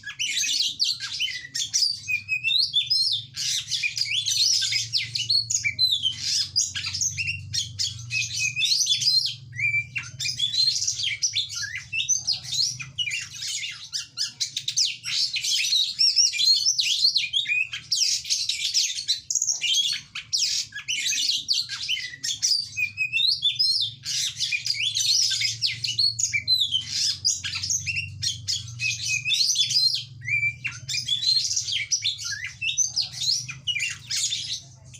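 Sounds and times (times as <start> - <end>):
songbird whistles and trills: 0.0 - 34.9.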